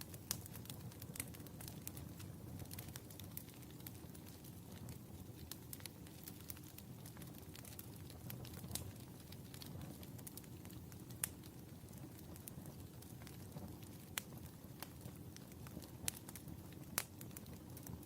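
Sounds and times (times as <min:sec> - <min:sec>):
fire crackling and popping: 0:00.0 - 0:18.0
wood fire rumbling: 0:00.0 - 0:18.0.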